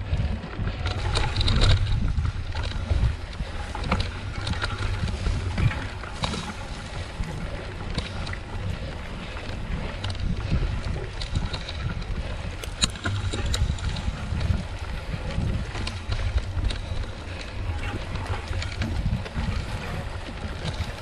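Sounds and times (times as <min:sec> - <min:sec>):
wind on microphone: 0:00.0 - 0:21.0
bike jolting over ground: 0:00.1 - 0:21.0
sharp ticks and rattles: 0:00.1 - 0:21.0.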